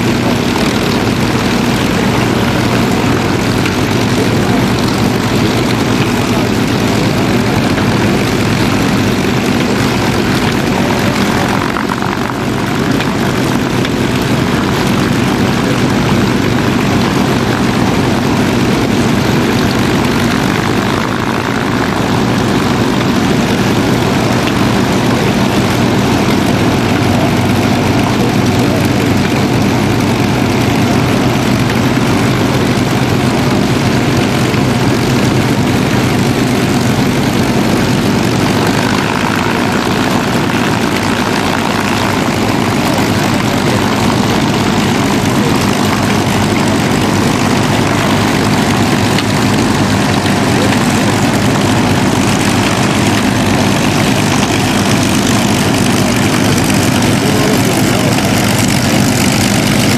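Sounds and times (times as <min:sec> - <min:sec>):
piston aircraft engines running: 0:00.0 - 0:59.9.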